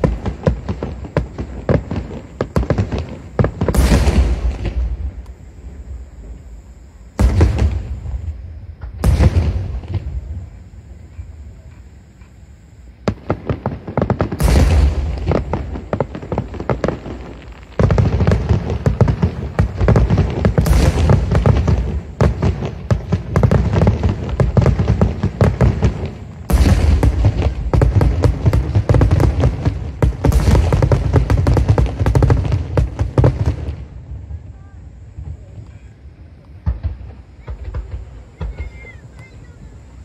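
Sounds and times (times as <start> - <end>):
fireworks booming and crackling: 0.0 - 40.0.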